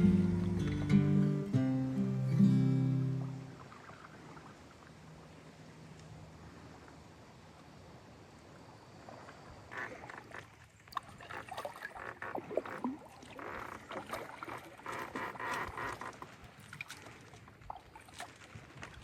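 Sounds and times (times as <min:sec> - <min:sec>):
paddle strokes splashing water: 0:00.0 - 0:01.5, 0:03.0 - 0:19.0.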